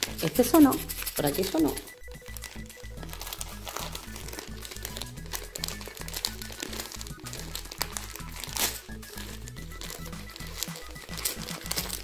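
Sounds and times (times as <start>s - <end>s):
background music with bass line: 0.0s - 12.0s
gift wrapping crinkling: 0.0s - 12.0s.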